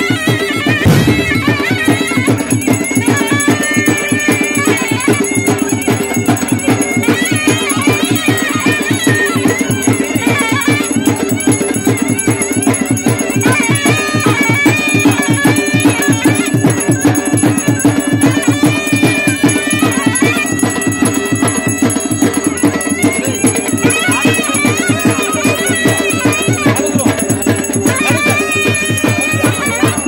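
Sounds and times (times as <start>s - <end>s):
fast continuous drumming: 0.0s - 30.0s
high wavering melody: 0.0s - 30.0s.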